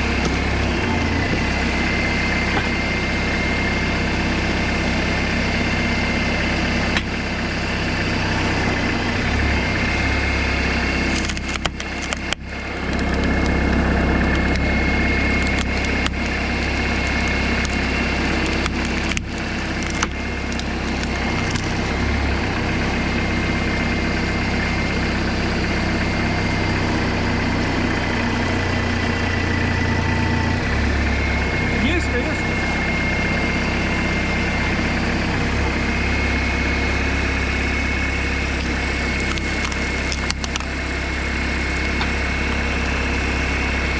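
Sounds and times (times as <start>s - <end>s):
logs cracking and splitting: 0.0s - 43.9s
tractor engine running: 0.0s - 43.9s.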